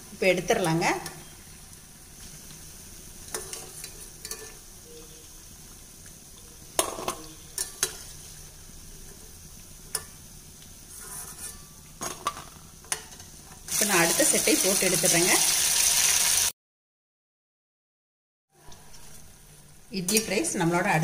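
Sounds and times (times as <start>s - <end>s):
food sizzling in hot oil: 0.0s - 16.6s, 18.9s - 21.0s.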